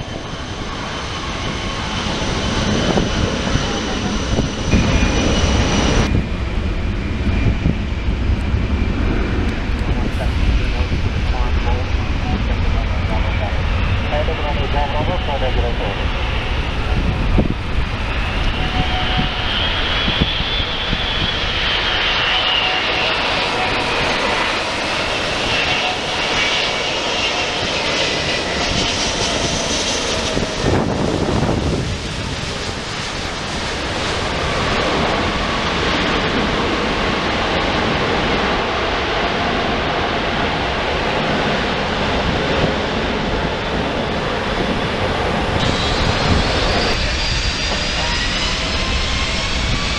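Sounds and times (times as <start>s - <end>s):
jet airliner engines roaring: 0.0s - 49.9s.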